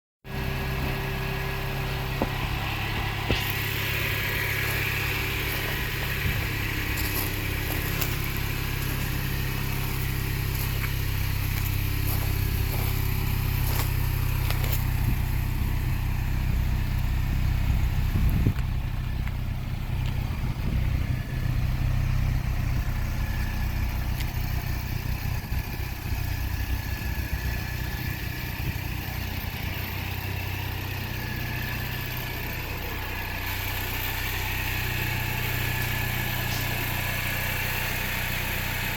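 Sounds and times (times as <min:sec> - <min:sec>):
car engine idling: 0:00.2 - 0:38.9.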